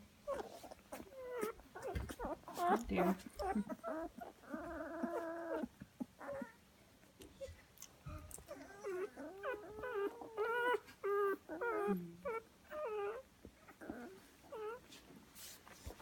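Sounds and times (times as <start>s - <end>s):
puppies whimpering and squealing: 0.2s - 6.6s, 7.4s - 14.9s.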